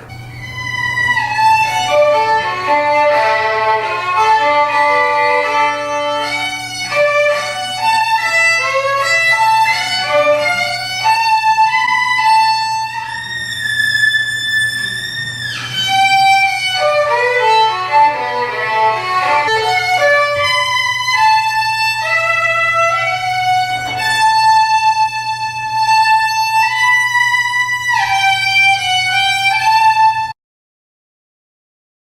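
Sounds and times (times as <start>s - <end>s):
solo violin melody: 0.0s - 30.4s.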